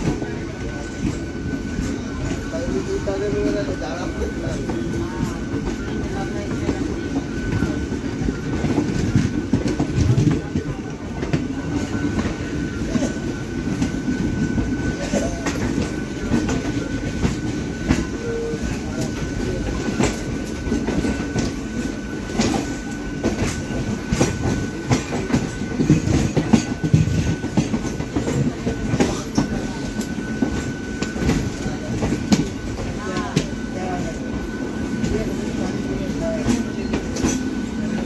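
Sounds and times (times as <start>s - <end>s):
train wheels clacking over joints: 0.0s - 38.0s.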